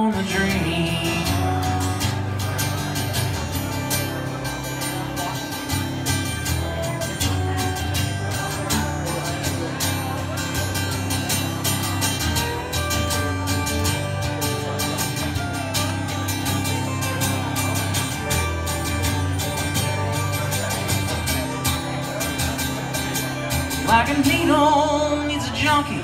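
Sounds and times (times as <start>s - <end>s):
acoustic guitar strumming: 0.0s - 26.0s
pedal steel guitar gliding notes: 0.0s - 26.0s.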